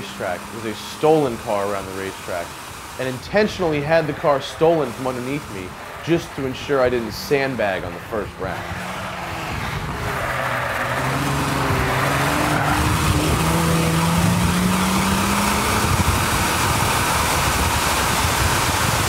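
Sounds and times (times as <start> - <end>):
car engine accelerating: 0.0 - 19.0
tyre and road noise: 0.0 - 19.0.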